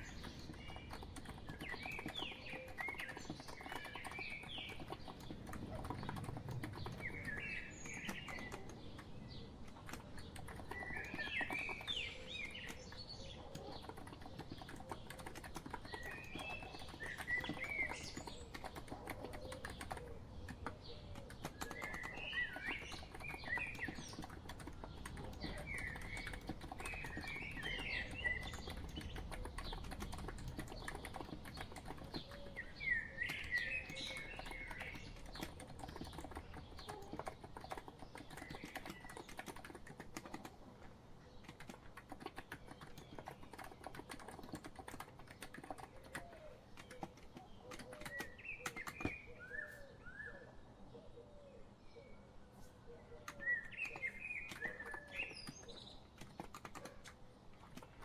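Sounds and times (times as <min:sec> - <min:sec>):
keyboard typing clicks: 0:00.0 - 0:49.3, 0:53.3 - 0:58.0
bird chirping: 0:00.0 - 0:58.0.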